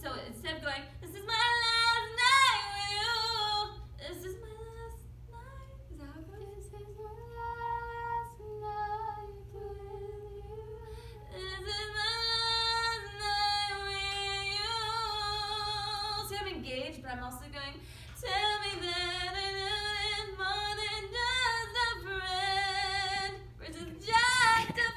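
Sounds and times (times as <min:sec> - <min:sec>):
woman singing unaccompanied: 0:00.0 - 0:24.9.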